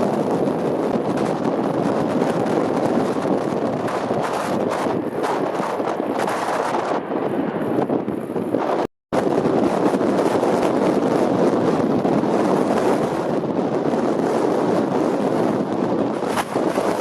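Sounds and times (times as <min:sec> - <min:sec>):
storm wind buffeting microphone: 0:00.0 - 0:17.0.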